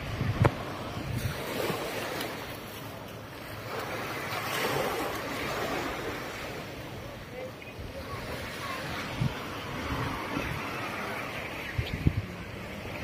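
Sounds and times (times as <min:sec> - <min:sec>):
wind rumble on microphone: 0:00.0 - 0:02.7, 0:03.6 - 0:13.0
surf washing onto beach: 0:00.0 - 0:13.0.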